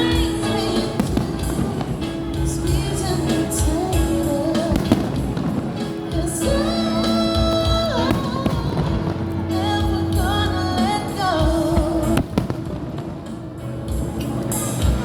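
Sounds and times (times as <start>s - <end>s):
fireworks bangs: 0.0s - 15.0s
loud music with singing voice: 0.0s - 15.0s.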